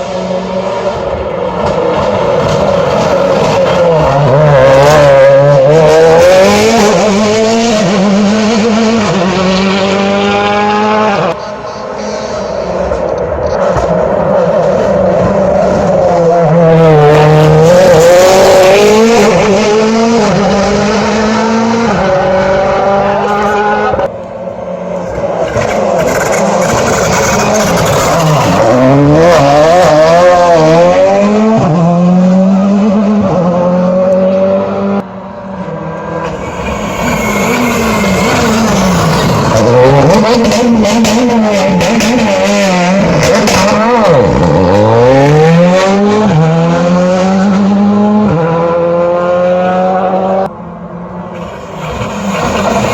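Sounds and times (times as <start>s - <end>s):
rally car engines revving: 0.0s - 52.9s.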